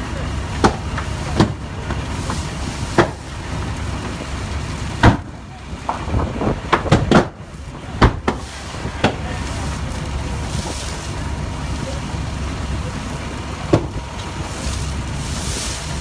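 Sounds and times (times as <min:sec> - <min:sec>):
low fire rumble: 0:00.0 - 0:16.0
fire popping and cracking: 0:00.1 - 0:16.0.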